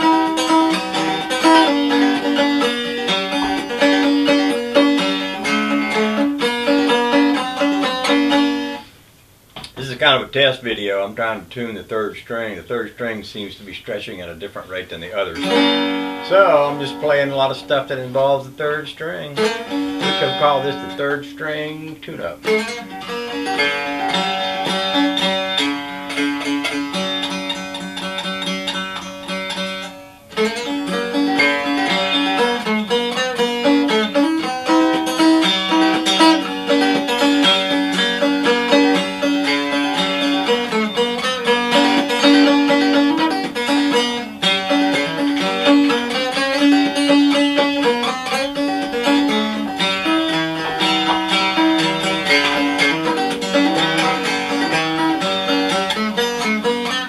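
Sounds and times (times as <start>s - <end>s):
banjo picking: 0.0s - 57.0s.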